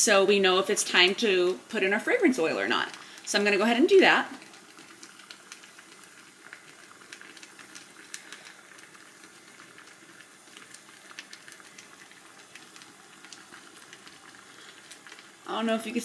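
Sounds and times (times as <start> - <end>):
water simmering with ticks and pops: 0.0 - 16.0.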